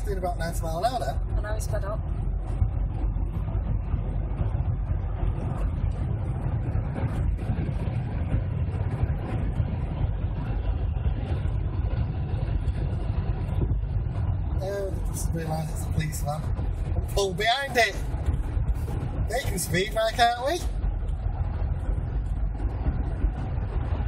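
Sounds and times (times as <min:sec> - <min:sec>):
car cabin road and engine rumble: 0:00.0 - 0:24.0.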